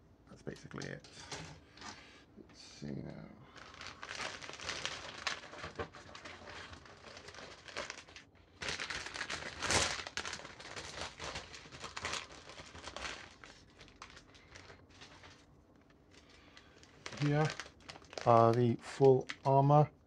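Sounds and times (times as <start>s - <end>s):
plastic bags crinkling: 3.5s - 19.6s.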